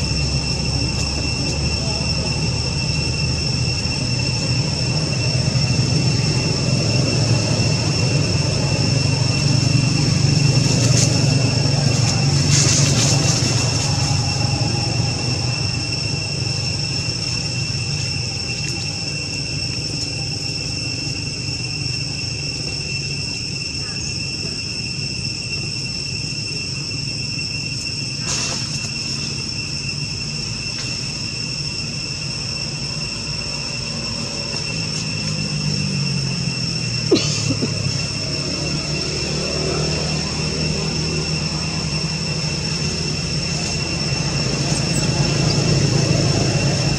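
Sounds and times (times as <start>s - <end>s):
insects buzzing: 0.0s - 46.9s
low engine-like hum: 0.0s - 46.9s.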